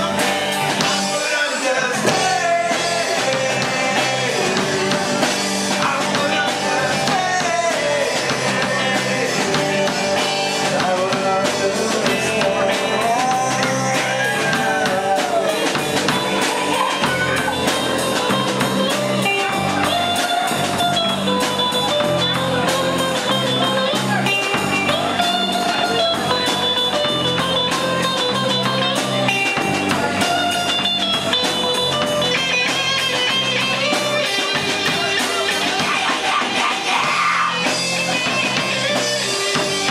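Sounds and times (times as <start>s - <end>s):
man singing: 0.0s - 39.9s
rock band playing: 0.0s - 39.9s.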